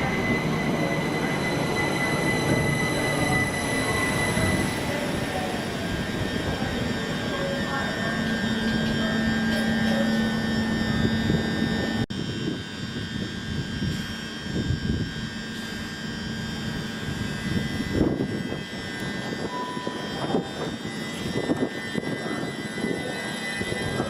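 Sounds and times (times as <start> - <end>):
train whine and hum: 0.0 - 24.0.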